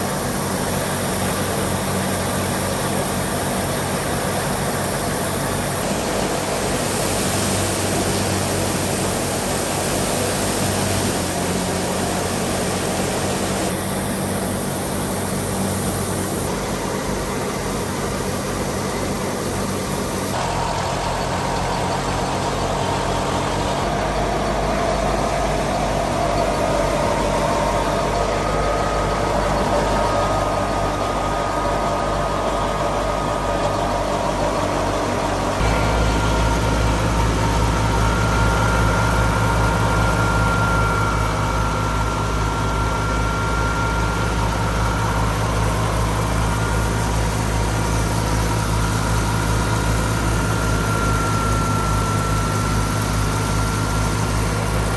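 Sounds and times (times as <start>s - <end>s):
thresher machinery noise: 0.0s - 54.9s
tractor diesel engine running: 0.0s - 54.9s.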